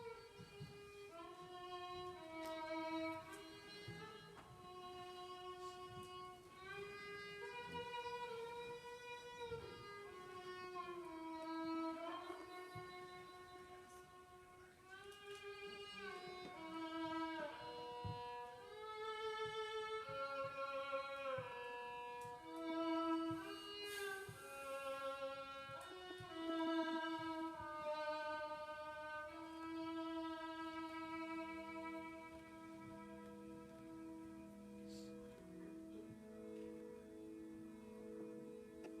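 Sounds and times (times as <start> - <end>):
fiddle playing sliding melody: 0.0 - 39.0.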